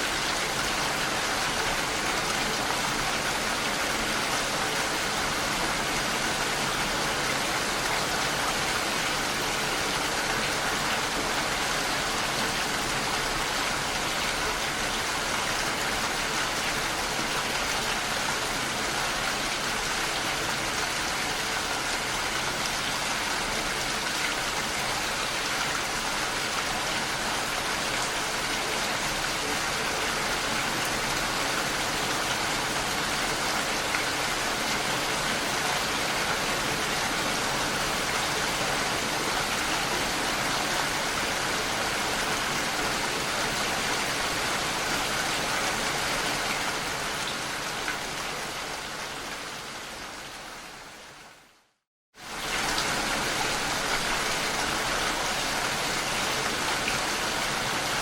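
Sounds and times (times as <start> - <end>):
heavy rain falling: 0.0 - 51.0, 52.2 - 58.0.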